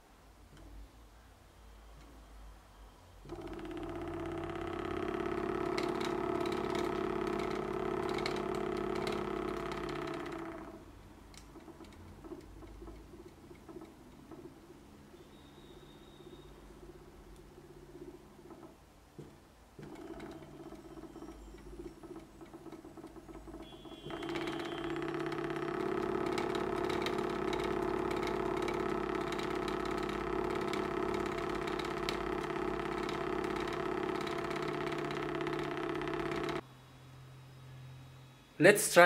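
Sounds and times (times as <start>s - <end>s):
small engine buzzing rattle: 3.2s - 36.7s.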